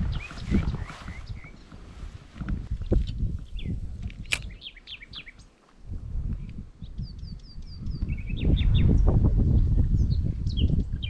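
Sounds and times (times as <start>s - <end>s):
low rumbling on microphone: 0.0s - 11.0s
small birds chirping: 0.0s - 11.0s.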